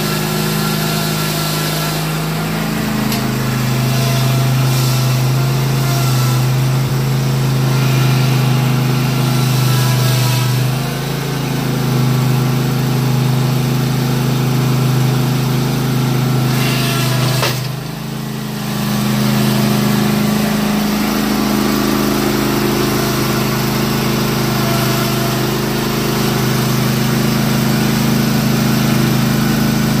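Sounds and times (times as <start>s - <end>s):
riding mower engine running: 0.0s - 30.0s.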